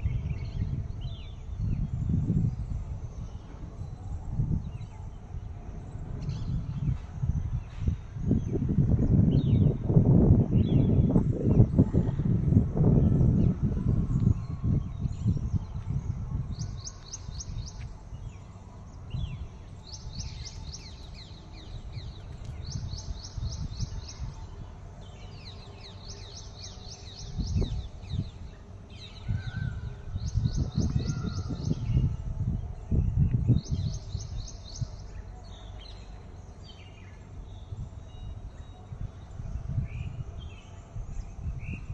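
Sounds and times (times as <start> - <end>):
low rumbling microphone noise: 0.0 - 41.9.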